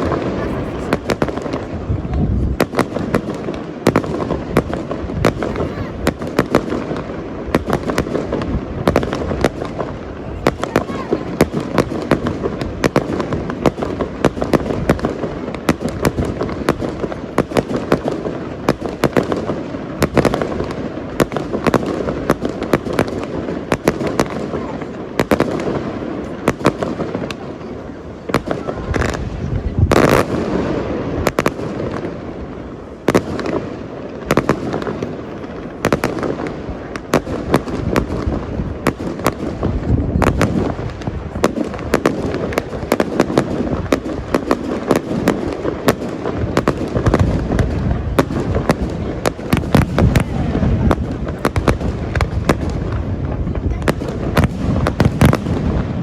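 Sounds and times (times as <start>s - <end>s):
fireworks cracks and booms: 0.0s - 56.0s
fireworks hissing bursts: 0.0s - 56.0s.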